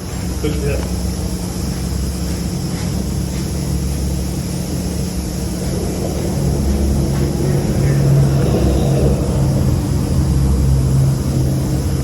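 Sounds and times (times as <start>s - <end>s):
machinery low drone: 0.0s - 12.0s.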